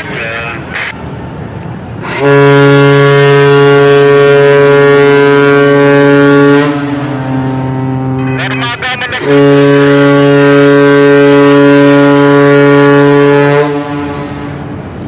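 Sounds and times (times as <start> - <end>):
low background rumble: 0.0 - 12.9
ship's horn blast: 2.0 - 15.0.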